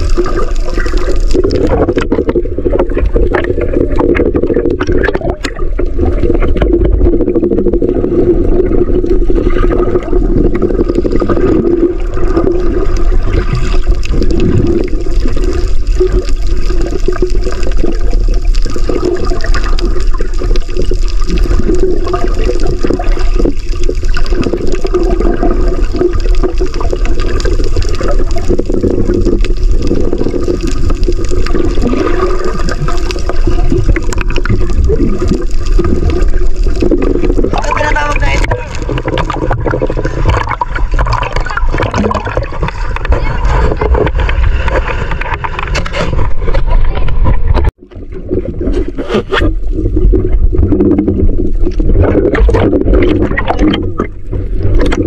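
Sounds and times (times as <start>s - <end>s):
muffled underwater water noise: 0.0s - 55.0s.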